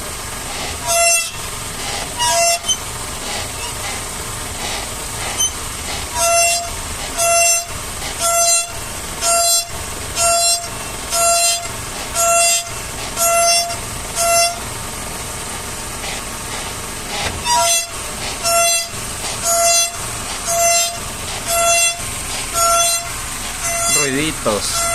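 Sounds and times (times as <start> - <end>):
steering squeaking: 0.0 - 14.7, 16.0 - 24.9.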